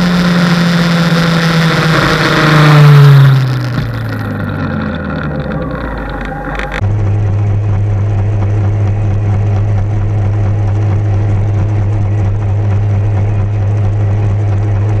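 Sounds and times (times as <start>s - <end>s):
motorcycle engine cruising: 0.0s - 15.0s
road and wind noise: 0.0s - 15.0s.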